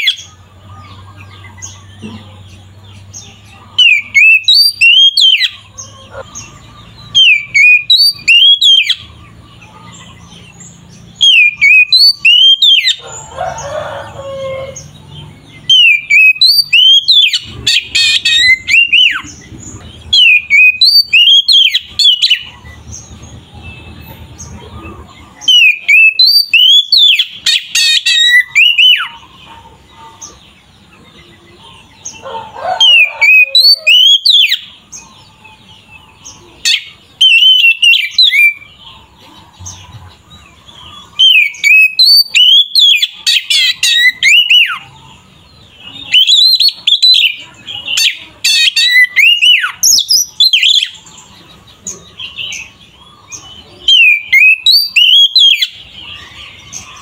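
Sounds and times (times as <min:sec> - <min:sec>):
songbird whistling song: 0:00.0 - 0:13.3, 0:15.5 - 0:24.8, 0:25.4 - 0:29.5, 0:31.0 - 0:44.9, 0:45.6 - 0:57.0.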